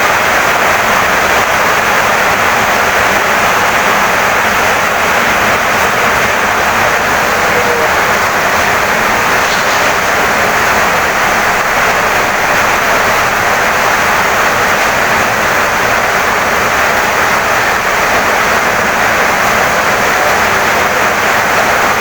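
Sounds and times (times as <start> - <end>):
heavy rain on wooden house: 0.0 - 22.0.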